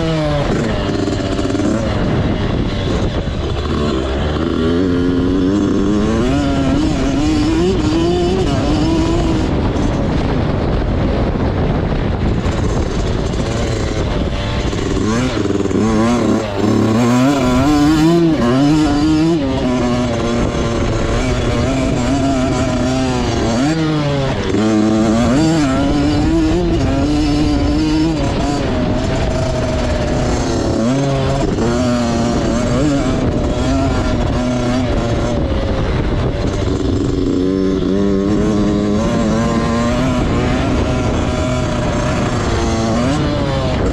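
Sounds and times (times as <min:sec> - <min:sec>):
motorbike engine revving: 0:00.0 - 0:43.9
steady rush of noise: 0:00.0 - 0:43.9.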